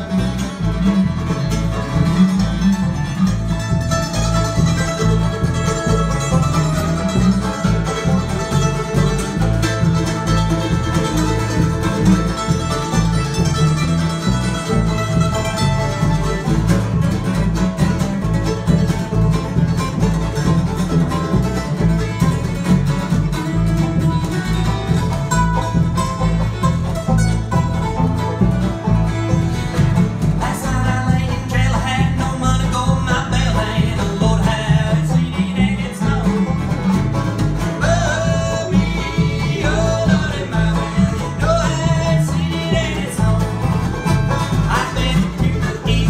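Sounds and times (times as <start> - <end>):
bluegrass band playing: 0.0 - 46.0.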